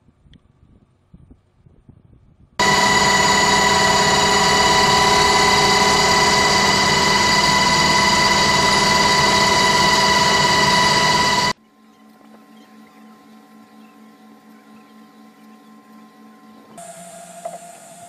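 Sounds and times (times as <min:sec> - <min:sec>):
aircraft engine drone: 0:02.6 - 0:18.0.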